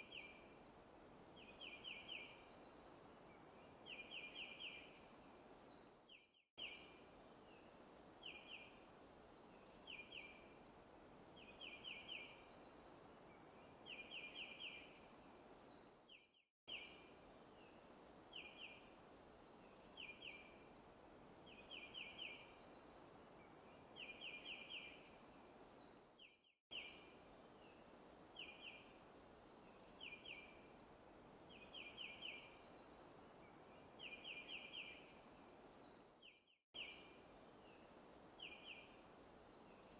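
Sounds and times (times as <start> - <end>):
soft steady hiss: 0.0 - 16.1, 16.7 - 39.9.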